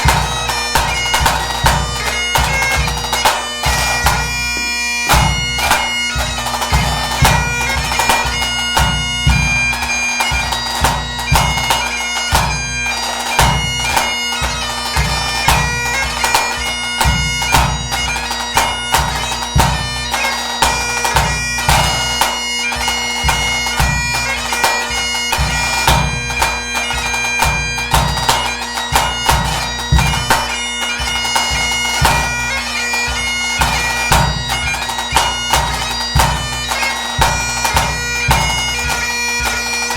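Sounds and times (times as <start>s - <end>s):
bagpipe playing a tune: 0.0s - 39.9s.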